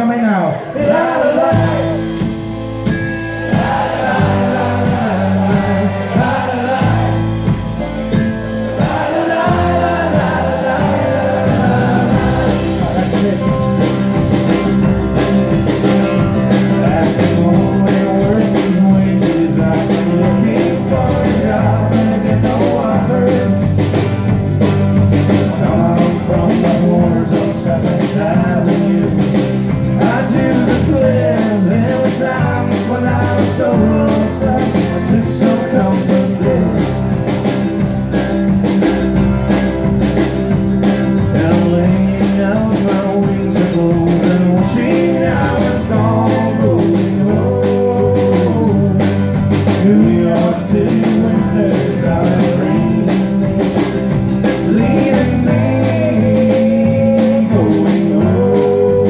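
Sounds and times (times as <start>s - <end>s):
acoustic folk band playing: 0.0s - 59.0s
steady drum beat: 0.0s - 59.0s
voices singing: 0.5s - 24.0s, 25.1s - 37.9s, 41.2s - 59.0s.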